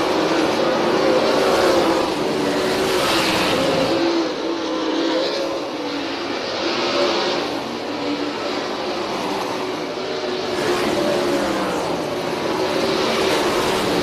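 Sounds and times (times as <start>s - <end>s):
racing car engines at high revs: 0.0s - 14.0s.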